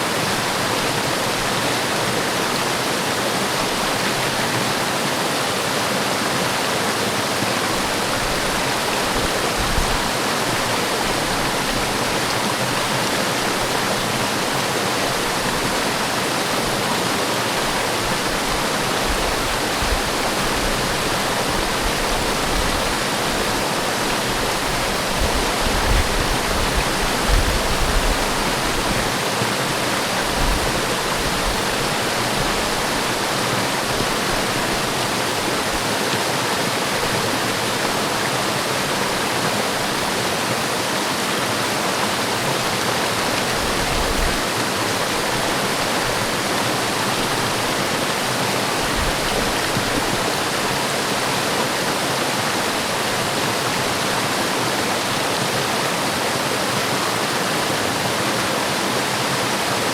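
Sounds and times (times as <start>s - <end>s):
waterfall crashing: 0.0s - 59.9s.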